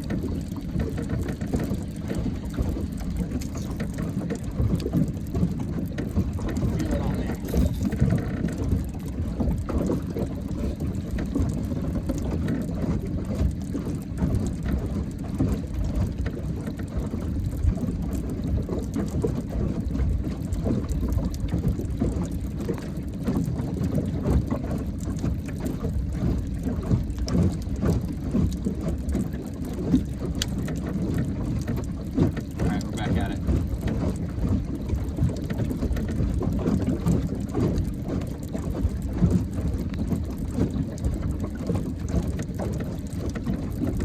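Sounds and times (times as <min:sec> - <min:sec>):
boat engine rumble: 0:00.0 - 0:44.0.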